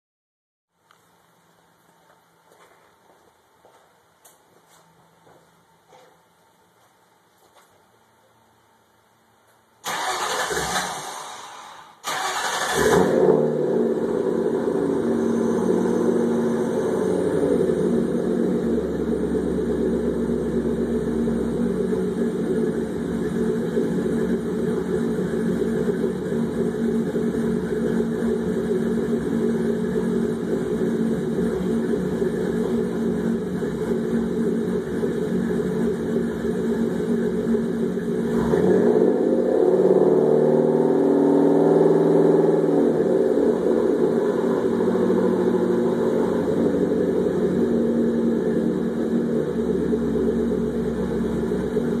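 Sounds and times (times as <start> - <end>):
car engine starting and idling: 9.8 - 52.0.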